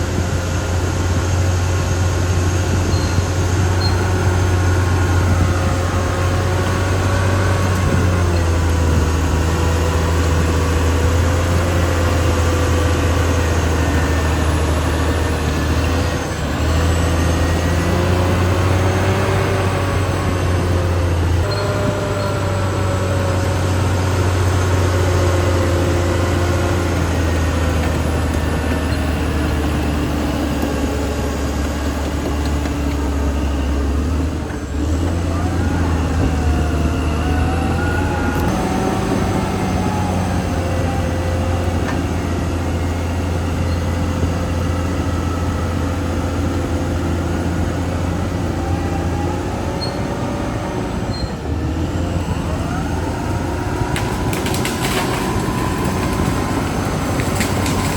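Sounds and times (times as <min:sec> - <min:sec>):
bulldozer diesel engine hum: 0:00.0 - 0:57.9
bulldozer tracks whining: 0:00.0 - 0:57.9.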